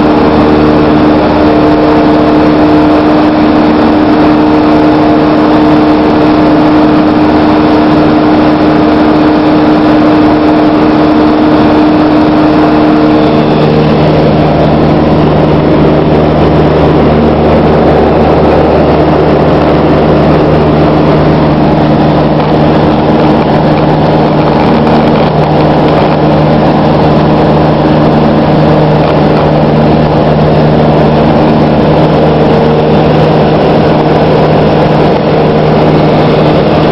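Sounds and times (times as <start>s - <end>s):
light aircraft engine droning: 0.0s - 36.9s.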